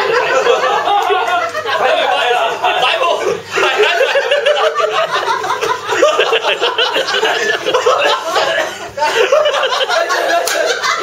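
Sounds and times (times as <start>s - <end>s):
excited voices: 0.0s - 11.0s
group of people laughing: 0.0s - 11.0s.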